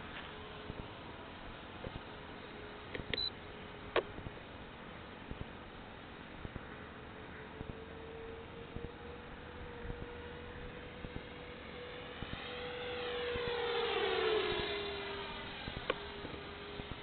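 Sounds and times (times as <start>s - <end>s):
model jet fans whining: 0.0s - 17.0s.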